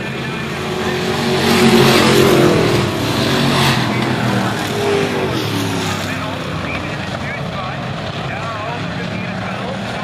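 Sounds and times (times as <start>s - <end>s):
race cars passing at full throttle: 0.0s - 10.0s.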